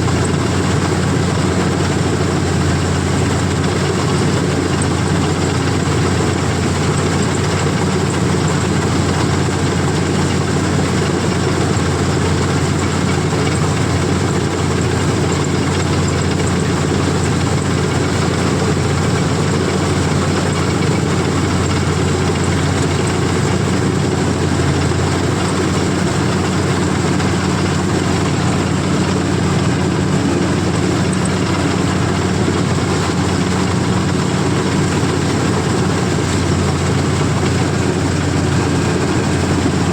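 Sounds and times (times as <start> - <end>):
diesel engine droning: 0.0 - 39.9
machinery noise: 0.0 - 39.9.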